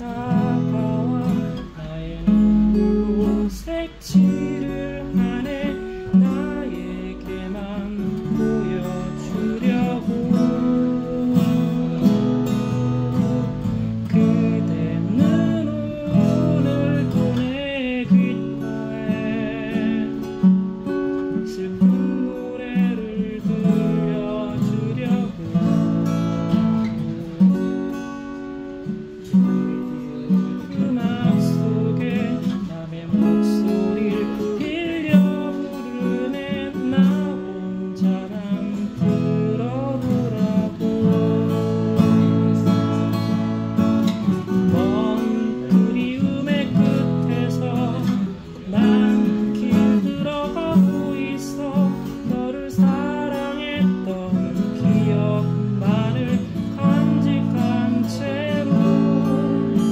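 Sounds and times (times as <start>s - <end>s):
person singing: 0.0s - 28.1s, 28.7s - 59.9s
acoustic guitar strummed: 0.0s - 59.9s.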